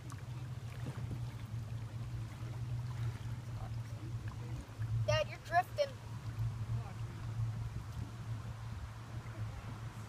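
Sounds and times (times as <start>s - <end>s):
low hum: 0.0s - 10.0s
water lapping around canoe: 0.0s - 10.0s.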